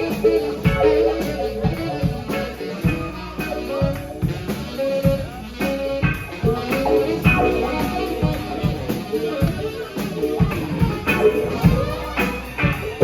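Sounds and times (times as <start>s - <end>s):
drum kit steady beat: 0.0s - 13.0s
guitar melody: 0.0s - 13.0s.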